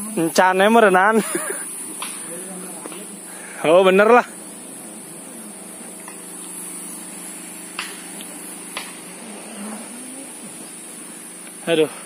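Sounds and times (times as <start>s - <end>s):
diesel engine running: 0.0s - 12.0s
high hiss: 0.0s - 12.0s.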